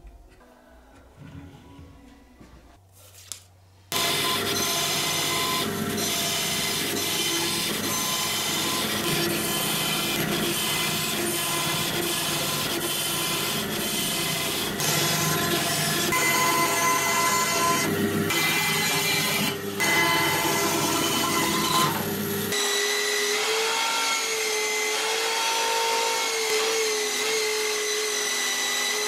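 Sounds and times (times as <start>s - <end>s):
band saw cutting wood: 3.9s - 29.0s.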